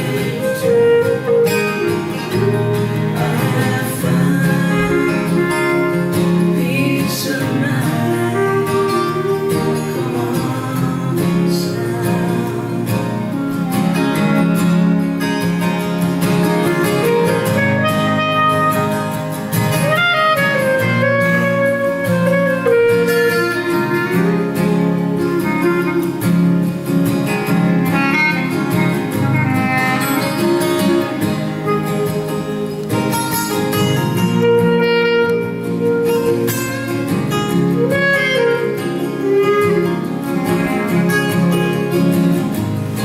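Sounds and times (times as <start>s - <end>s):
guitar accompaniment: 0.0s - 43.0s
sliding melodic lead line: 0.0s - 43.0s.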